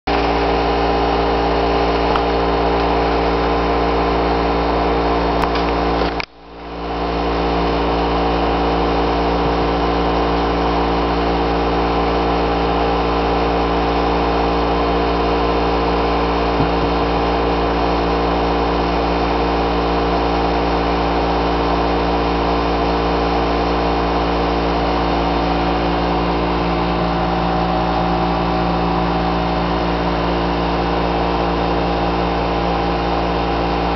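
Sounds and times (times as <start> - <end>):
steady mechanical hum: 0.1 - 33.9.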